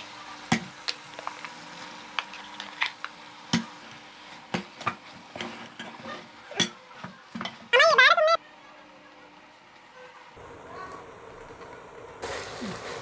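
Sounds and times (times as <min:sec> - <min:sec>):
faint frying sizzle: 0:00.0 - 0:07.6, 0:08.7 - 0:13.0.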